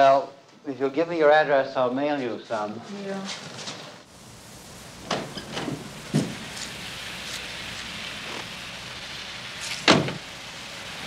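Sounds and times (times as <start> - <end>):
street ambience hiss: 0.5 - 11.0.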